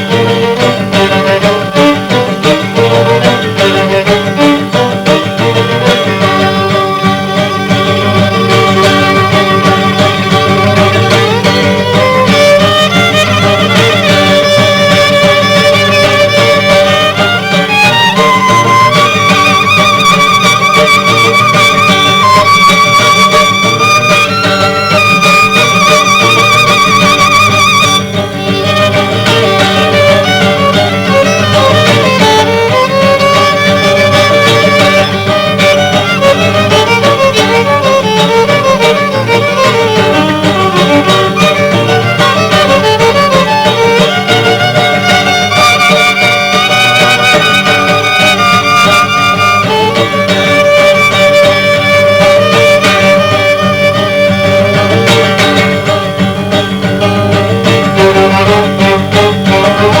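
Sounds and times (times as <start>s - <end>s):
guitar accompaniment: 0.0s - 60.0s
violin melody with vibrato: 0.0s - 60.0s.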